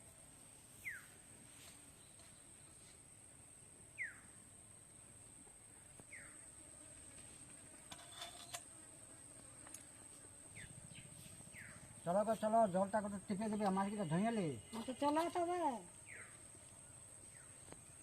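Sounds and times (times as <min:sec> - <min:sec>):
high thin insect drone: 0:00.1 - 0:18.0.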